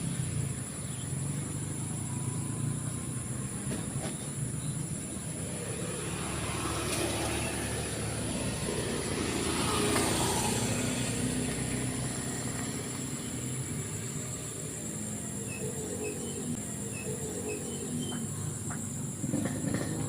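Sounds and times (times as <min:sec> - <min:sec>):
vehicle engine passing by: 0:00.0 - 0:20.0.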